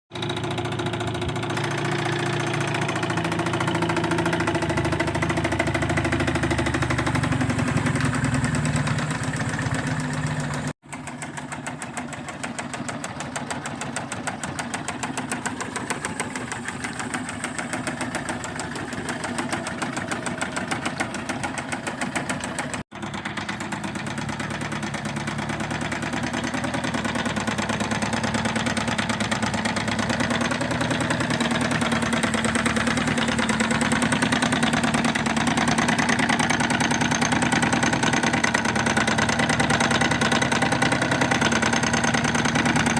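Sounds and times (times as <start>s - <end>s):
engine running with knocking: 0.1s - 42.9s.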